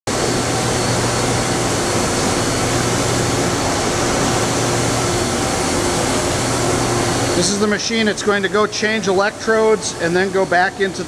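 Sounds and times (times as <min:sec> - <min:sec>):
low machine hum: 0:00.1 - 0:11.0.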